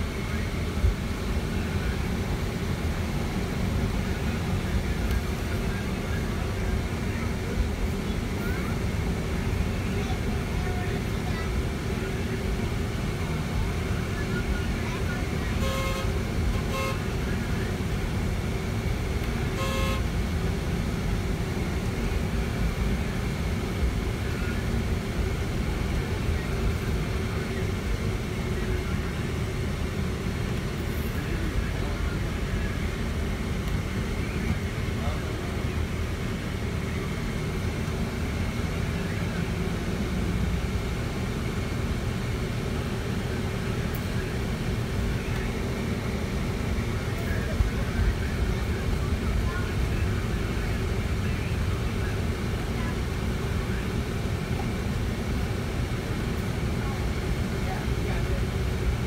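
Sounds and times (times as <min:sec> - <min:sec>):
bus engine rumble and road noise: 0:00.0 - 0:59.0.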